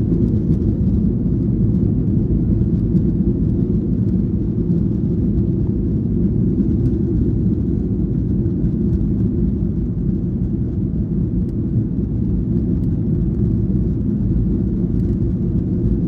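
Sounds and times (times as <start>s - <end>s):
jet engines in cabin: 0.0s - 16.0s.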